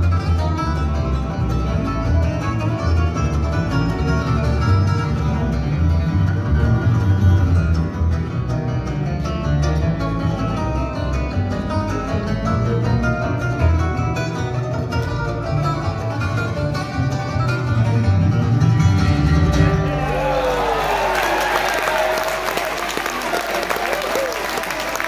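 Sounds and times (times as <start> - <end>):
upright bass notes: 0.0 - 20.1
acoustic guitar: 0.0 - 20.2
bluegrass band playing: 0.0 - 20.8.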